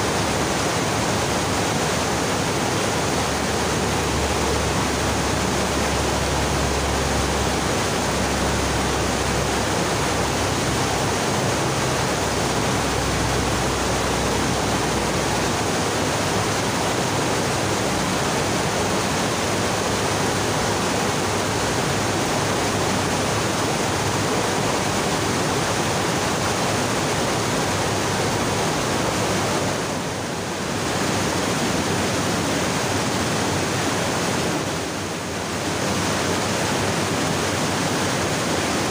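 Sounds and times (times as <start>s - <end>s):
stream rushing over boulders: 0.0s - 38.9s.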